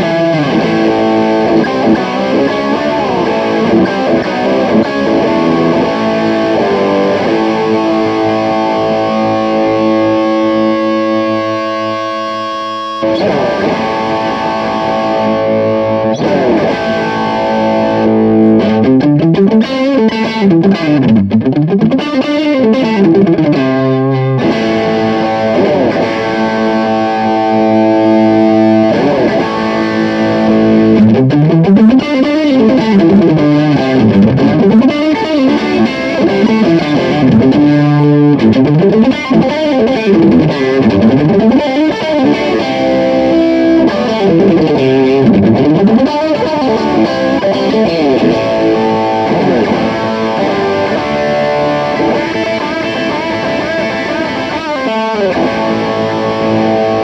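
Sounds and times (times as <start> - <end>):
heavily distorted electric guitar: 0.0 - 57.0.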